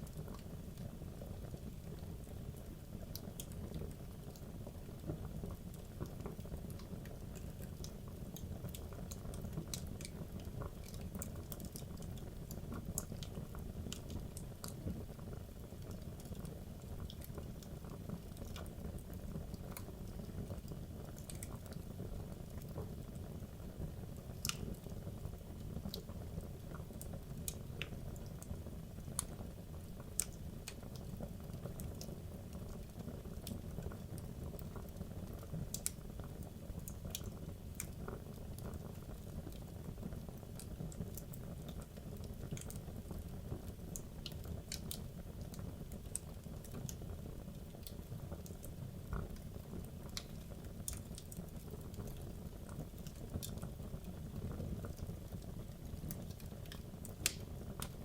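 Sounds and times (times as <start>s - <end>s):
logs burning with crackles: 0.0s - 58.0s.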